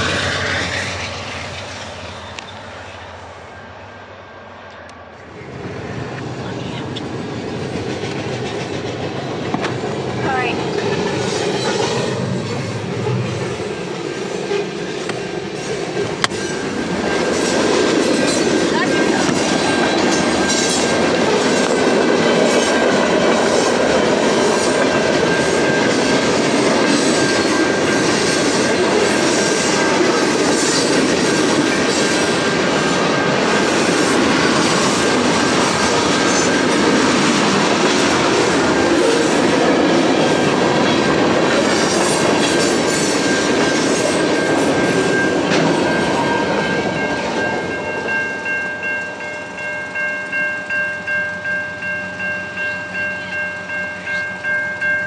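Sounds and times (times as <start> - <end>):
freight train wheels rumbling: 0.0 - 55.0
crossing warning bell ringing: 7.2 - 55.0.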